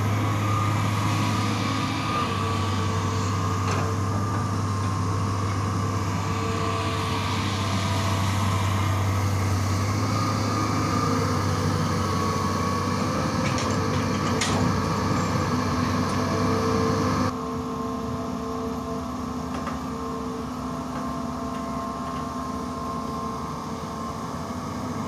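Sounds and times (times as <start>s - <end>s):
excavator engine and hydraulics: 0.0s - 25.0s.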